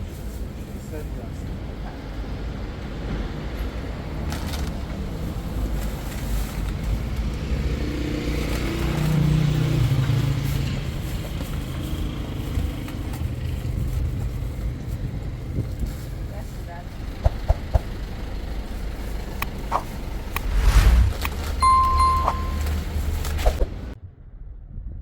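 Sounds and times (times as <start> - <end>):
vehicle engine rumbling: 0.2 - 24.0.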